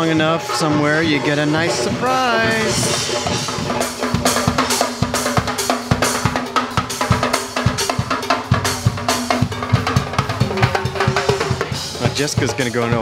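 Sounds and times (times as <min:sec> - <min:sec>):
drum kit steady beat: 0:00.0 - 0:13.0.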